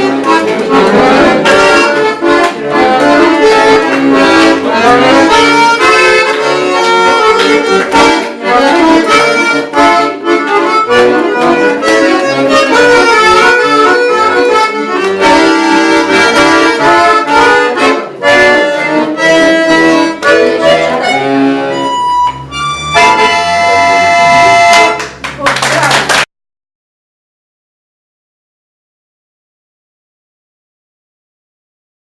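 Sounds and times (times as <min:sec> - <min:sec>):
instrumental music: 0:00.0 - 0:26.3.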